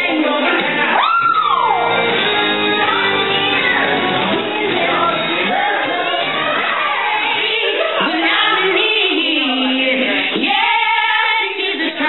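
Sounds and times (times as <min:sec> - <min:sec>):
several voices singing together: 0:02.2 - 0:12.0.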